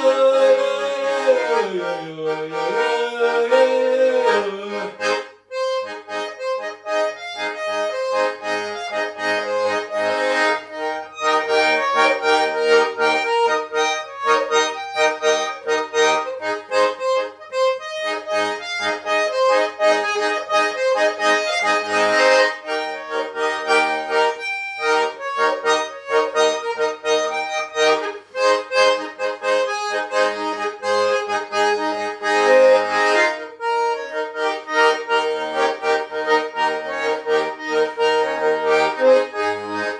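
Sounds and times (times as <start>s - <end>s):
button accordion folk tune: 0.0s - 39.9s.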